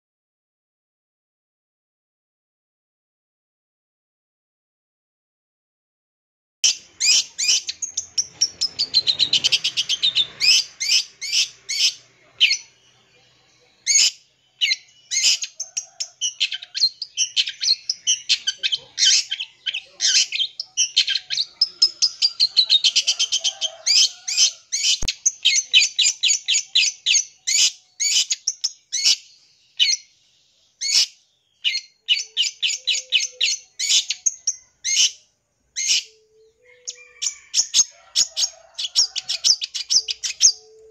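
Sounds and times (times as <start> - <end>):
shrike singing chattering song: 6.6 - 30.2, 30.8 - 40.9.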